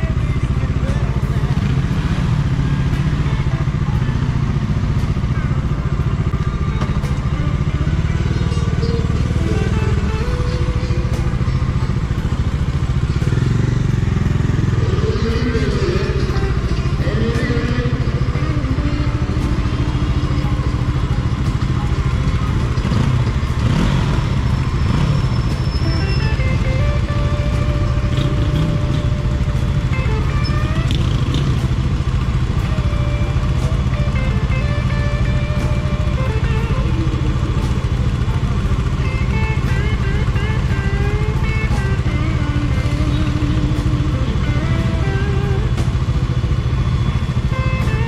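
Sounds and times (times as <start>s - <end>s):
motorcycle engine running: 0.0s - 48.0s
other motorcycle engines: 0.0s - 48.0s.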